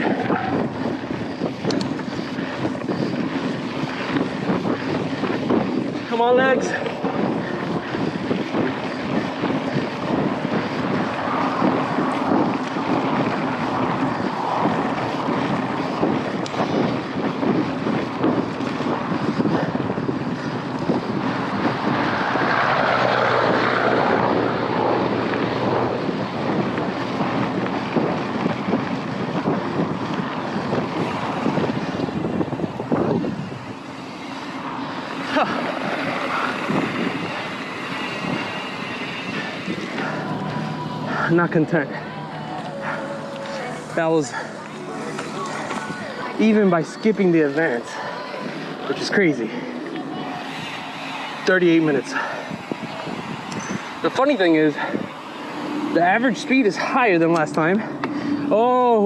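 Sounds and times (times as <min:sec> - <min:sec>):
bike tyres rattling on trail: 0:00.0 - 0:59.0
wind rushing over microphone: 0:00.0 - 0:59.0.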